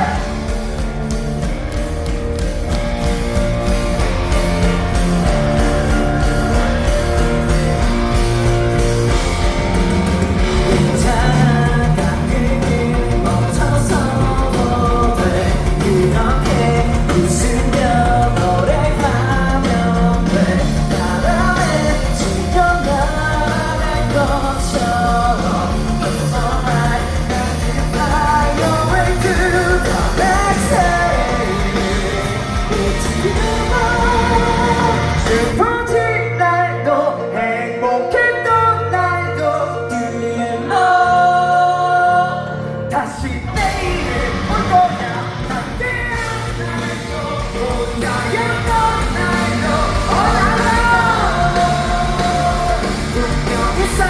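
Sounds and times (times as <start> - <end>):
drums: 0.0 - 40.0, 40.8 - 54.0
electric guitars: 0.0 - 54.0
person singing: 0.0 - 54.0.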